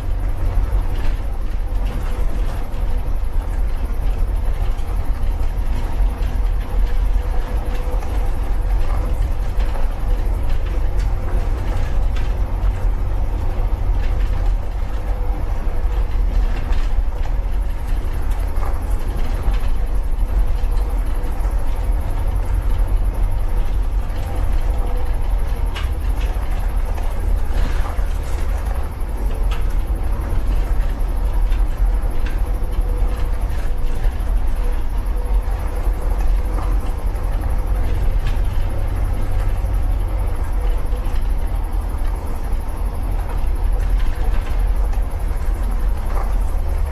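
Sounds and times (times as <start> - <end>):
light rattles and clicks: 0.0 - 46.9
truck engine rumbling: 0.0 - 46.9.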